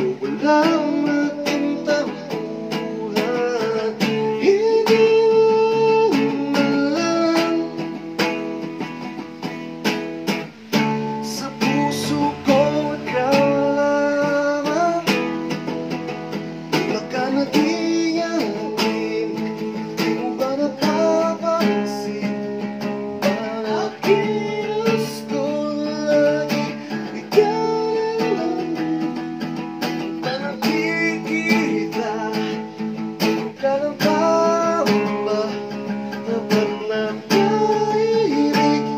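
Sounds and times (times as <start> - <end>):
man singing into microphone: 0.0 - 8.6, 11.0 - 38.9
acoustic guitar strumming: 0.0 - 38.9.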